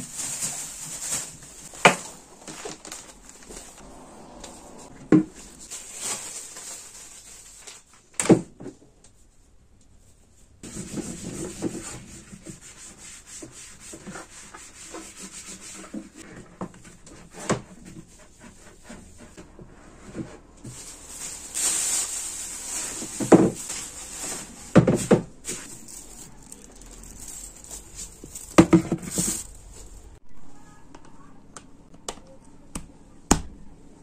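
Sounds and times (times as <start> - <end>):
rubbing and rustling handling noises: 0.0 - 8.2, 9.1 - 30.2.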